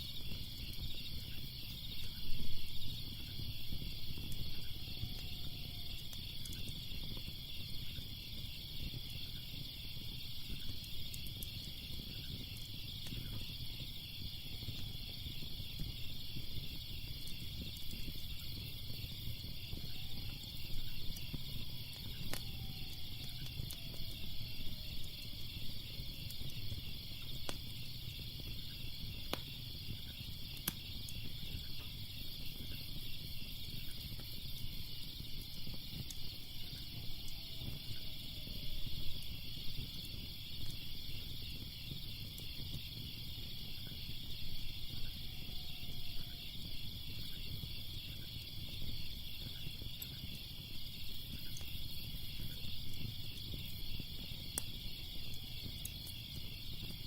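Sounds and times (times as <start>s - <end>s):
insects chirping: 0.0s - 57.0s
wood fire crackling: 0.0s - 57.0s.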